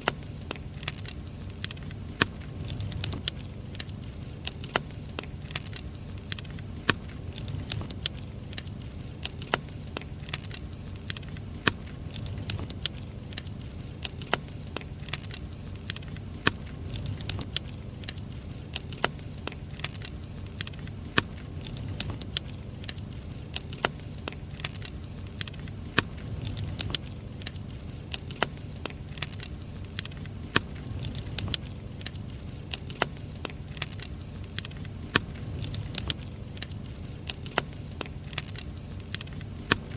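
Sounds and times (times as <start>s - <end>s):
fire low rumble: 0.0s - 39.9s
firewood crackling and popping: 0.0s - 39.9s.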